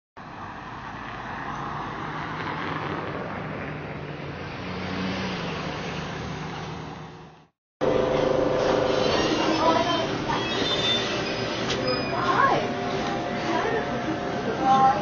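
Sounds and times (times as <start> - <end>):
road noise: 0.2 - 15.0.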